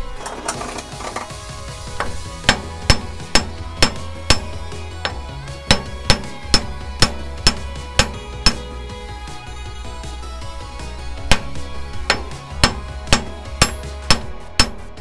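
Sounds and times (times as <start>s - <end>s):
hammer striking metal: 0.0s - 9.0s, 11.0s - 15.0s.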